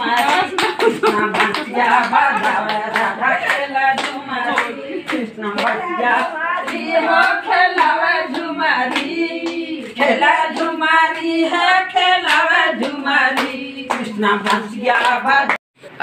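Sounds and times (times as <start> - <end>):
rhythmic hand claps: 0.0 - 15.6
women singing together: 0.0 - 15.6.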